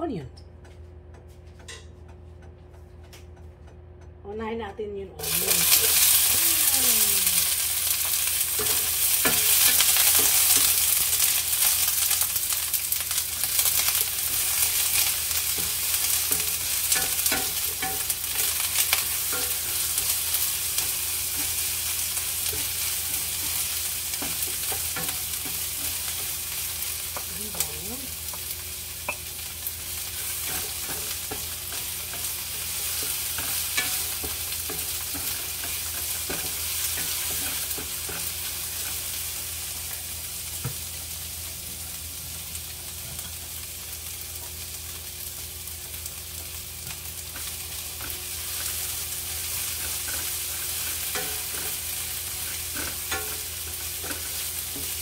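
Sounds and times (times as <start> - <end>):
onions sizzling in oil: 5.2 - 55.0.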